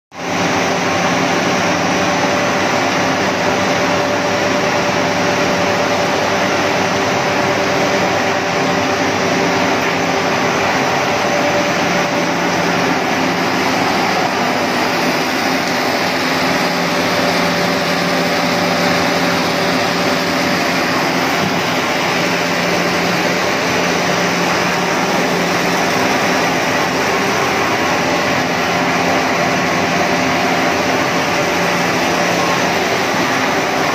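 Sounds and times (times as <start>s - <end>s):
blower noise: 0.2s - 33.9s
constant hums: 0.2s - 33.9s.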